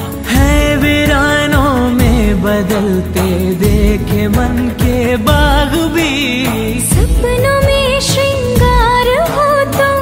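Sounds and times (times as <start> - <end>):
song with singing and instruments: 0.0 - 10.0.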